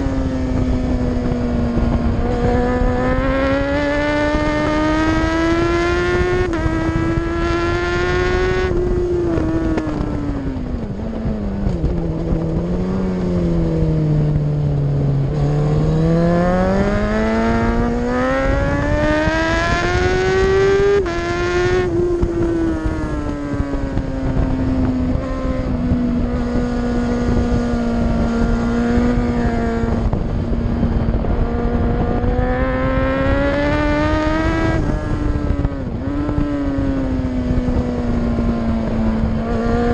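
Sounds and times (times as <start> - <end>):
superbike engine at high revs: 0.0 - 39.9.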